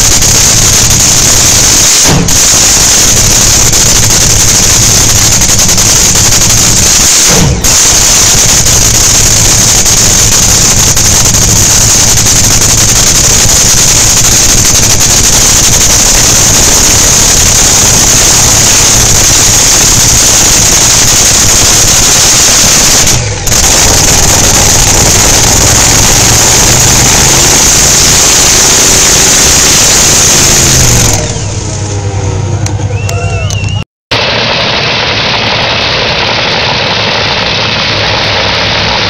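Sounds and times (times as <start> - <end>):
loud dragster engine running: 0.0 - 39.0.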